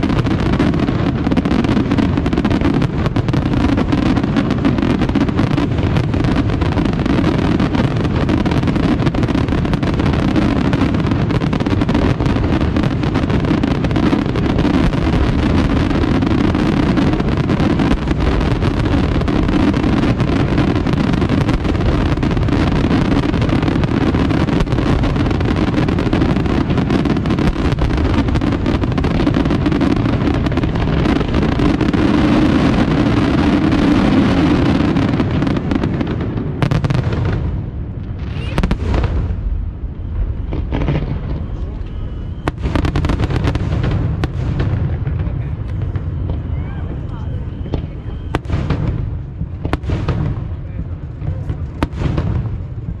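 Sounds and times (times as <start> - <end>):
fireworks bursting in a barrage: 0.0 - 53.0.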